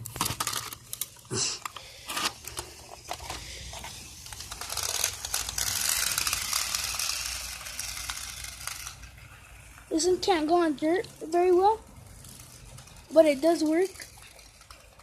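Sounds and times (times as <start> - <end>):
toy car motor whirring: 0.1 - 15.0.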